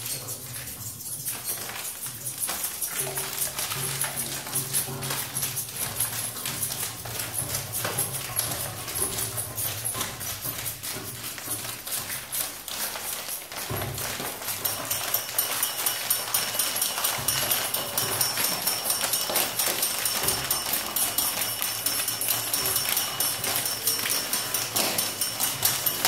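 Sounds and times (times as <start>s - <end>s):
rapid ticking and rattling: 0.0s - 26.0s.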